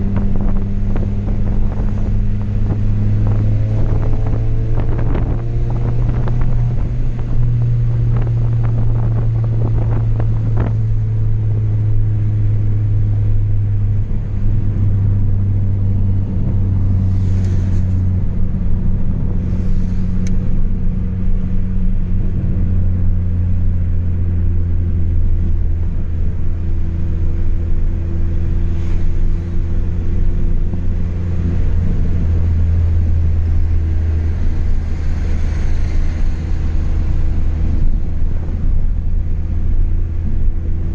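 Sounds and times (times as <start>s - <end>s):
car engine droning: 0.0s - 40.9s
exhaust crackling: 0.0s - 40.9s.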